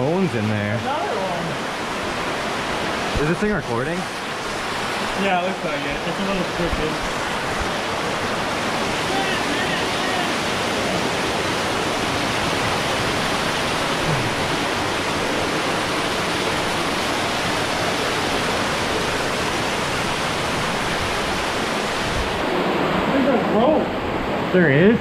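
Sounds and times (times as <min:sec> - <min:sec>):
water rushing through gorge: 0:00.0 - 0:25.0.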